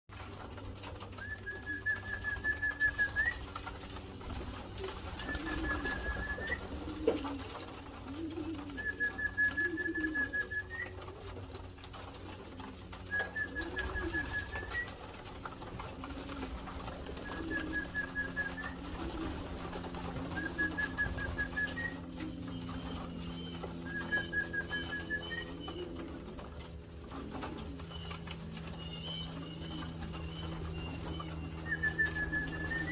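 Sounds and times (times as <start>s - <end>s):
low steady hum: 0.1s - 32.9s
pigeons cooing: 0.1s - 32.9s.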